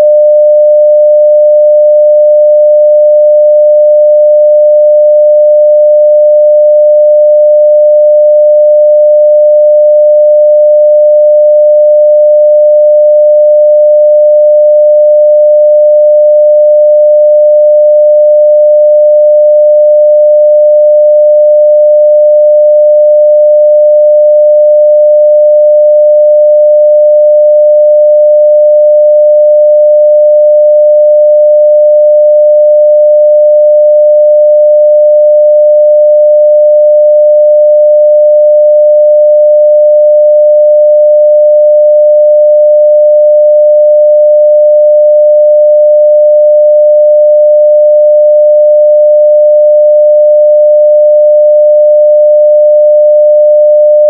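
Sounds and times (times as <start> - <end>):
sine wave test tone: 0.0 - 54.0.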